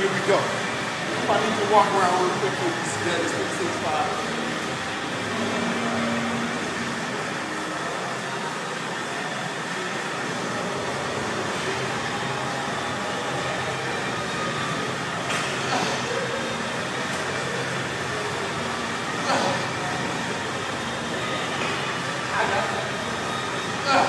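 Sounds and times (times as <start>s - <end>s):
rushing gym background noise: 0.0s - 24.0s.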